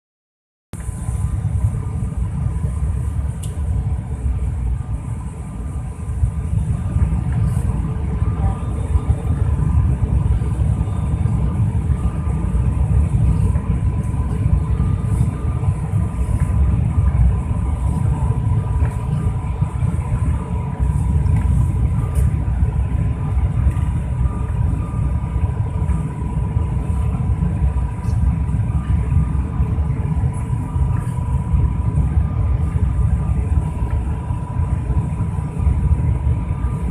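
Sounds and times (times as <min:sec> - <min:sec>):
airliner cabin engine rumble: 0:00.7 - 0:36.9
constant whine: 0:00.8 - 0:36.9.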